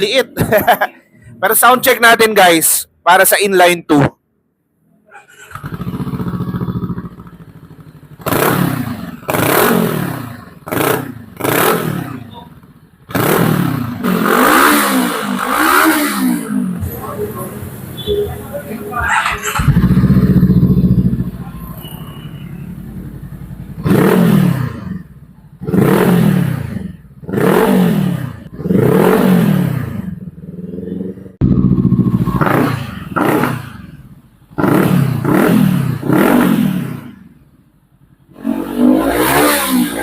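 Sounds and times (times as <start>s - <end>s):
motorcycle engine revving: 5.4s - 37.5s, 38.2s - 40.0s.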